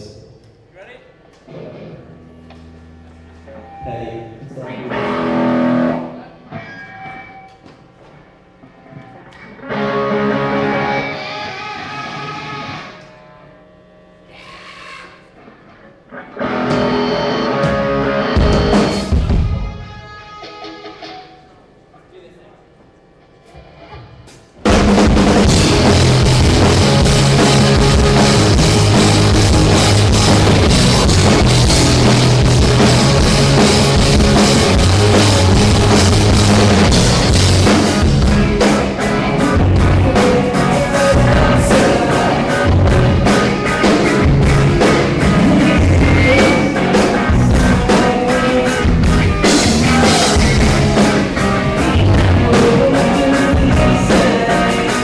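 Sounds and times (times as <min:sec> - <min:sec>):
rock band playing loudly: 0:04.6 - 0:21.6, 0:23.5 - 0:55.0.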